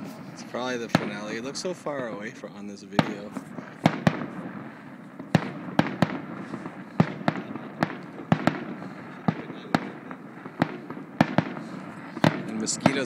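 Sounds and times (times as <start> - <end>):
background hiss: 0.0 - 13.0
fireworks bangs: 0.0 - 13.0.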